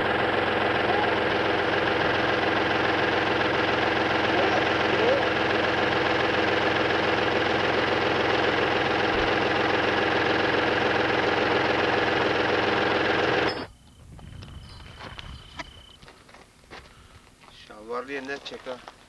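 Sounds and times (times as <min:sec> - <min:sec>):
vehicle engine idling: 0:00.0 - 0:17.6.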